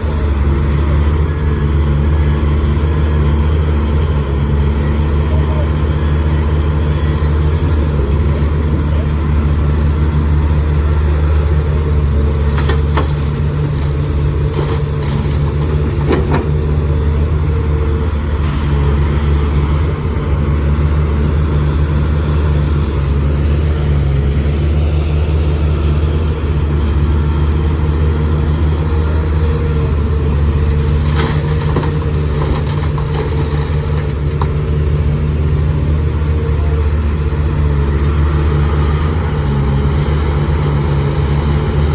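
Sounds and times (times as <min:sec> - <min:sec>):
heavy diesel engine droning: 0:00.0 - 0:41.9.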